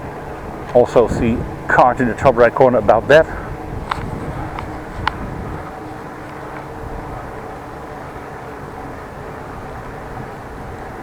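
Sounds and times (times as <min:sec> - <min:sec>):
tyres on the road: 0:00.0 - 0:09.3
passing motor vehicles: 0:00.0 - 0:11.0.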